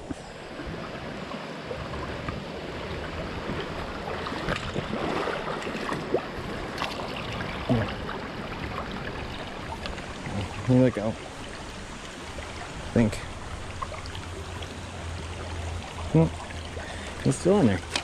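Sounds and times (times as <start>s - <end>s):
brook running over rocks: 0.0s - 18.0s.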